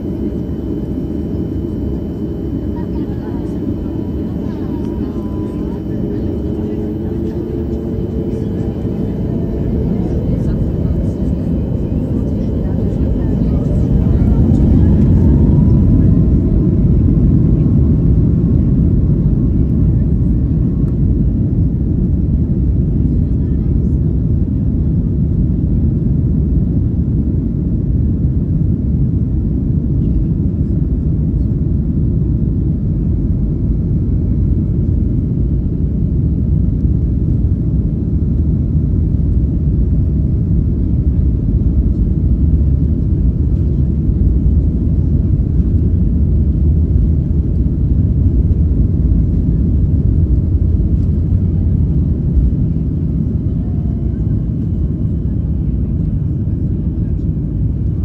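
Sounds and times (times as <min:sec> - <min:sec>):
jet engines and wheels rumbling: 0:00.0 - 0:58.0.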